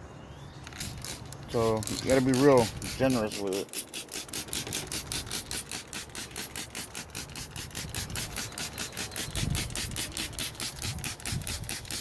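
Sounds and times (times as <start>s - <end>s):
spray bottle squirts: 0.8s - 12.0s.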